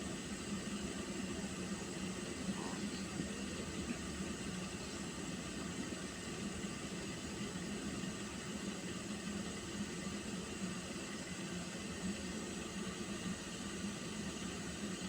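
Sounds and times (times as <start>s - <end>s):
pot of water heating hissing: 0.0s - 15.0s.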